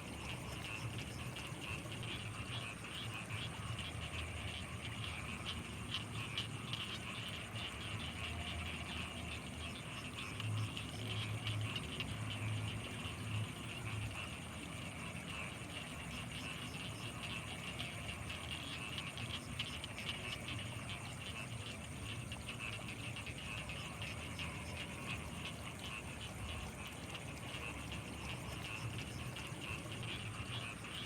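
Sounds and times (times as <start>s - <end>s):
frogs and insects chirping: 0.0s - 31.0s
low pulsing frog calls: 0.0s - 31.0s.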